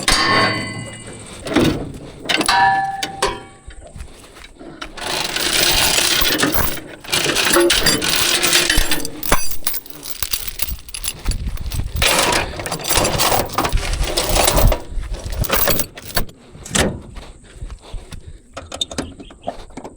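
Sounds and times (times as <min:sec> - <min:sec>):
metallic clinking and rattling: 0:00.0 - 0:16.4.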